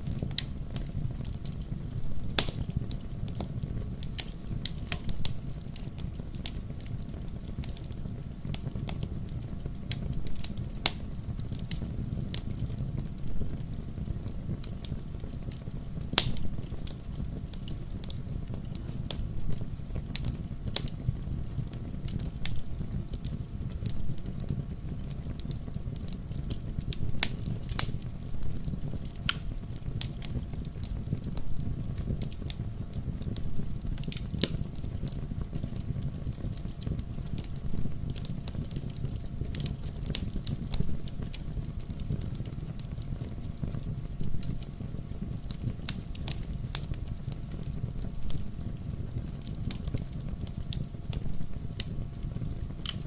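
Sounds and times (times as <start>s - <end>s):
bonfire crackling and popping: 0.0s - 53.0s
low rumble of fire: 0.0s - 53.0s.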